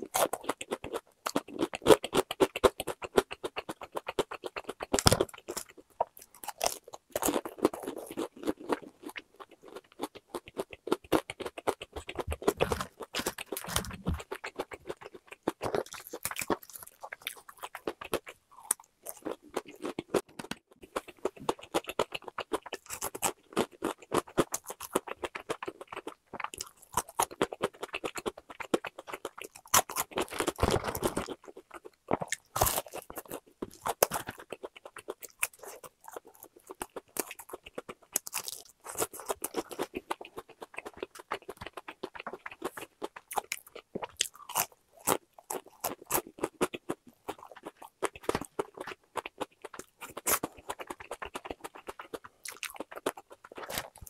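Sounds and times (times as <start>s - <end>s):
chewing crispy fried chicken: 0.0s - 54.0s.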